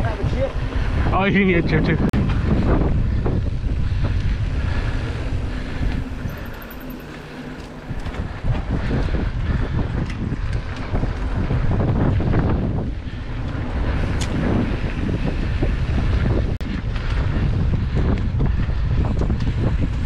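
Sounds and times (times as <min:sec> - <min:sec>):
wind buffeting microphone: 0:00.0 - 0:20.0
bike rattling over bumps: 0:02.2 - 0:20.0
bike tyres on dirt: 0:02.2 - 0:20.0.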